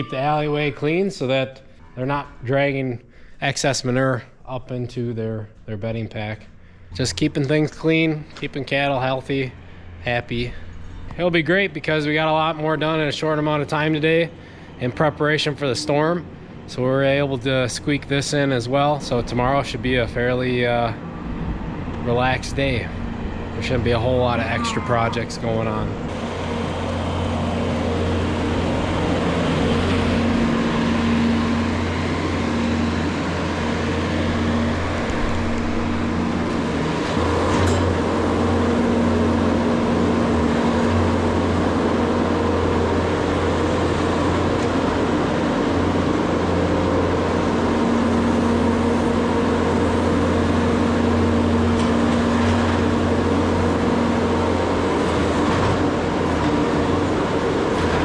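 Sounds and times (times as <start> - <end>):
farm machinery engine running: 6.2 - 58.0.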